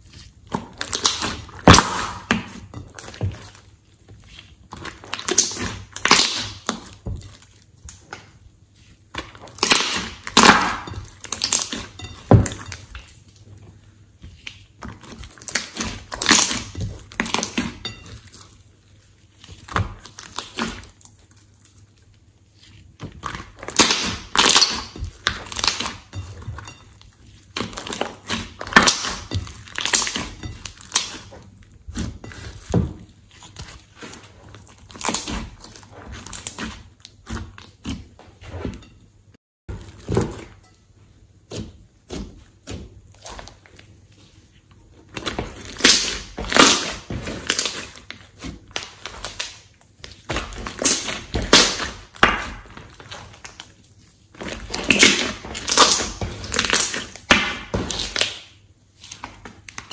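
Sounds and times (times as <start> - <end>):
hands squishing sticky slime: 0.0 - 38.5, 41.4 - 59.9.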